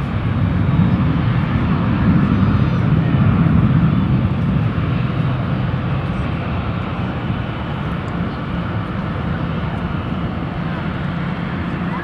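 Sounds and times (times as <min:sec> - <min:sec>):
jet engines rumbling at takeoff: 0:00.0 - 0:12.0.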